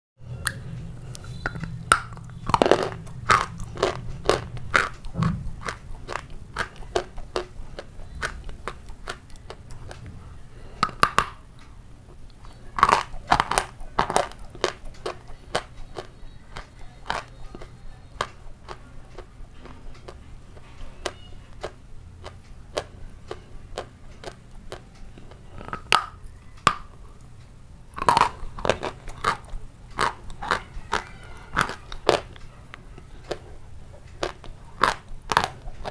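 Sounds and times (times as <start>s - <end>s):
crunching bites of hard food: 0.4s - 10.1s, 10.8s - 11.4s, 12.5s - 27.2s, 27.9s - 32.4s, 34.1s - 35.9s
crackly chewing: 0.4s - 35.9s.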